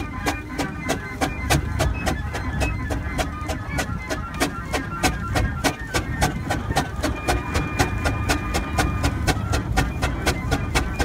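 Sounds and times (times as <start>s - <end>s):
steam engine exhaust chuffing: 0.0s - 11.0s.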